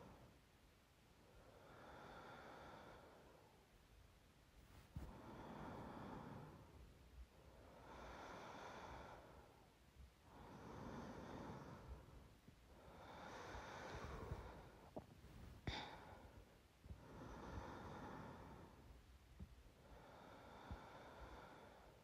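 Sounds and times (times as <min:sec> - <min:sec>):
soft sleeping breathing: 0:00.0 - 0:22.0.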